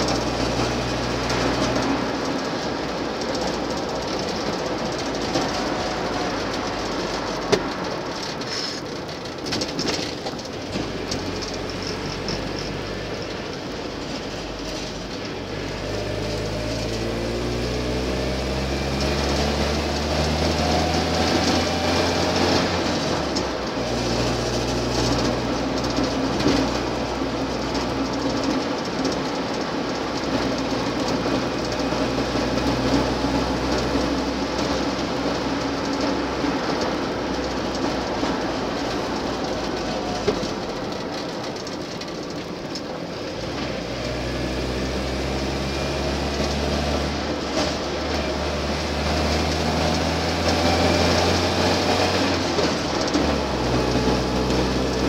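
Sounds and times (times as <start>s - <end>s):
car engine from inside cab: 0.0s - 55.0s
road noise: 0.0s - 55.0s.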